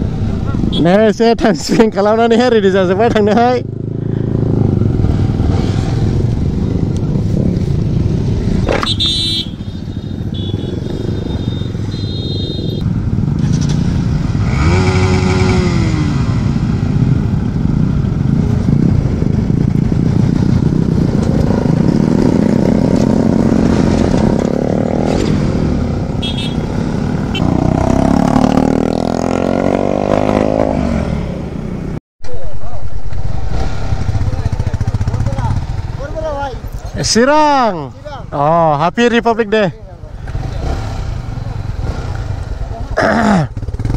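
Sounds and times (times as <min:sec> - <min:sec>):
motorcycles revving past: 0:01.7 - 0:32.0, 0:33.1 - 0:38.8, 0:39.4 - 0:43.9.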